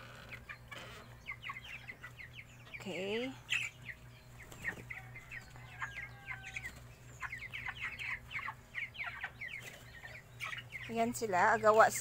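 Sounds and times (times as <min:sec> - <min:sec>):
chicks peeping: 0:00.0 - 0:12.0
steady low hum: 0:00.0 - 0:12.0.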